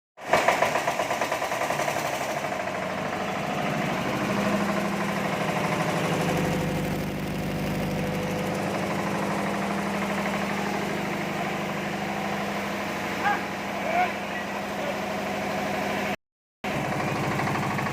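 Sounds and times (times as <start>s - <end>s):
hoist engine running with rapid pulse: 0.2s - 17.9s.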